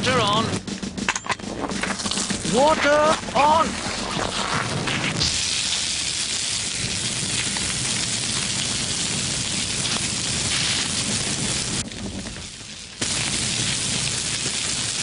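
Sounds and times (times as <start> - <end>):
fire hose spraying water: 1.9 - 15.0.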